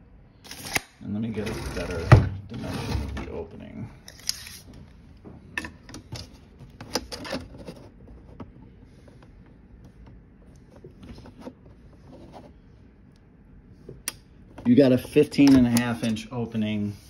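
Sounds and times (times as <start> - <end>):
quiet handling noise: 1.3 - 16.9.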